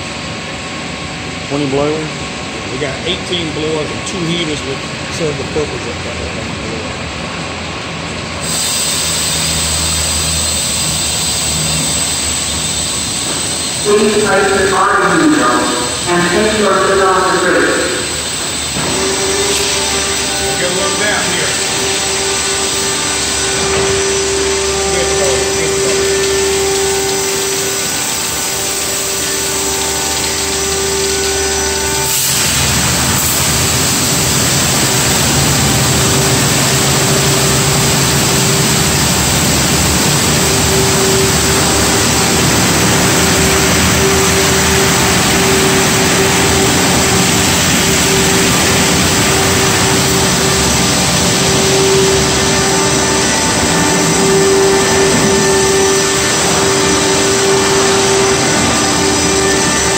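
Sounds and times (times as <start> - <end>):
loud rushing wash noise: 0.0 - 59.9
machinery hum: 0.0 - 59.9
water spraying: 8.4 - 59.9.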